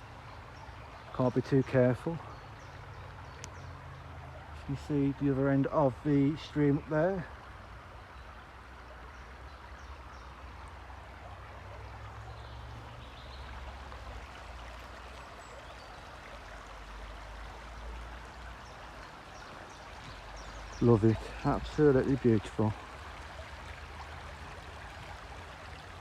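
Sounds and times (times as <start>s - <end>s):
stream babbling: 0.0s - 26.0s.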